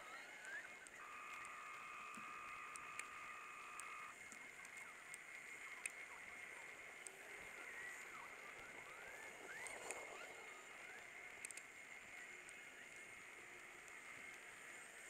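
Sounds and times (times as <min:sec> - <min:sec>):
faint high whine and hiss: 0:00.0 - 0:15.0
soft clicks: 0:00.2 - 0:14.8.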